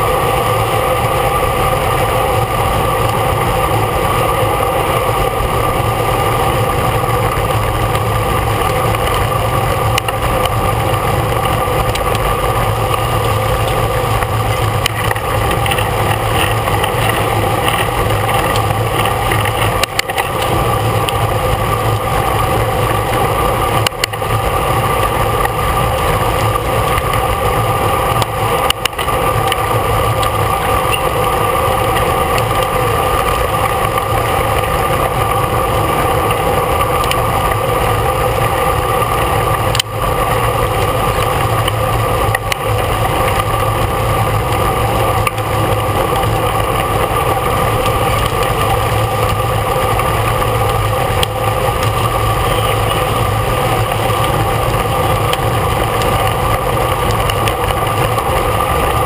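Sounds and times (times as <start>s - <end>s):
road noise: 0.0s - 59.0s
wind rushing on microphone: 0.0s - 59.0s.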